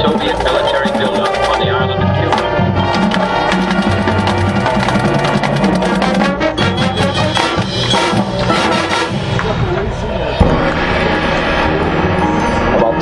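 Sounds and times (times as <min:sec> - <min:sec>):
brass sustaining chords: 0:00.0 - 0:13.0
drumline percussion hits: 0:00.0 - 0:13.0.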